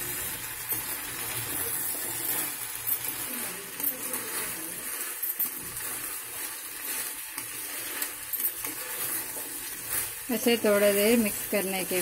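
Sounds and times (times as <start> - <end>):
metal spoon scraping and clinking pan: 0.0 - 12.0
sauce sizzling in pan: 0.0 - 12.0.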